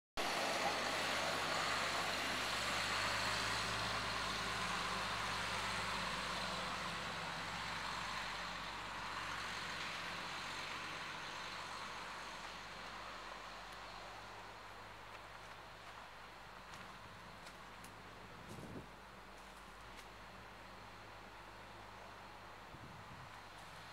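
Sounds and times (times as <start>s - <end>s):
garbage truck diesel engine: 0.2s - 23.9s.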